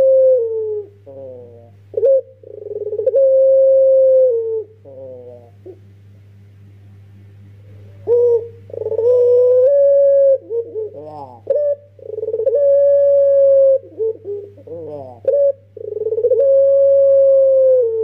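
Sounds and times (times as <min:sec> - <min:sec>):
dove cooing: 0:00.0 - 0:05.9, 0:07.7 - 0:18.0
steady low hum: 0:00.0 - 0:18.0.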